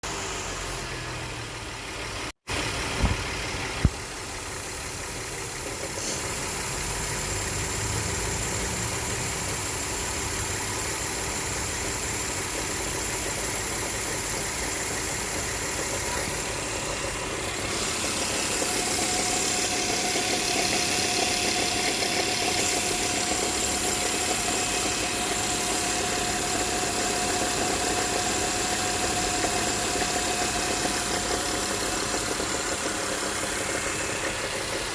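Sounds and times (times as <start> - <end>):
car engine idling with knocking: 0.0 - 34.9.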